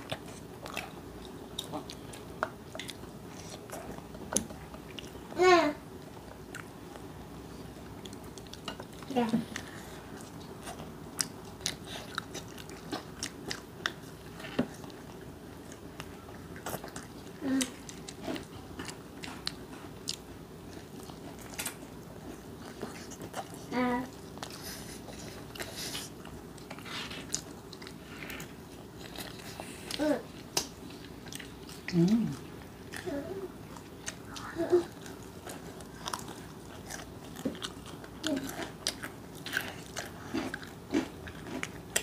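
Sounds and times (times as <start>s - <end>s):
people chewing crunchy food: 0.0s - 42.0s.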